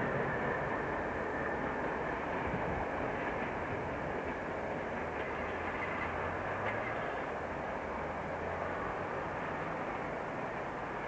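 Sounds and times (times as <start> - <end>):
diesel locomotive engine drone: 0.0 - 11.0
train rumble: 0.0 - 11.0.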